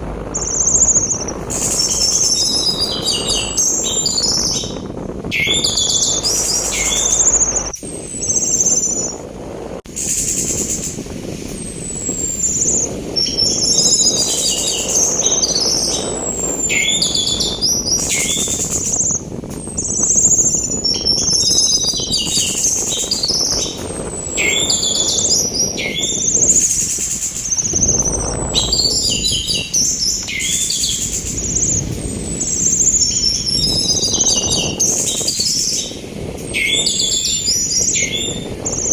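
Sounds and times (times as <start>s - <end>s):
sea wind rushing: 0.0s - 38.9s.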